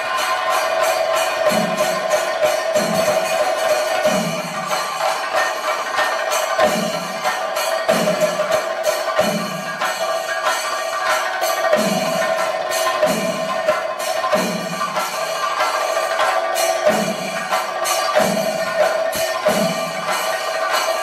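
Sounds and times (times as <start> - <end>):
drums rolling with sticks: 0.0 - 21.0
hand cymbals clashing: 0.0 - 21.0.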